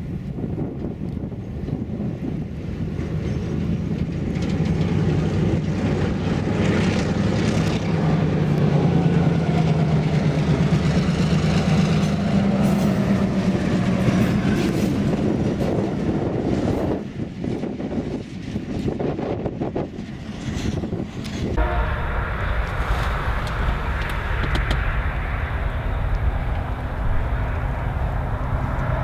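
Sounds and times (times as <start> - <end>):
diesel locomotive engine drone: 0.0 - 29.0
train wheels rumbling on rails: 0.0 - 29.0.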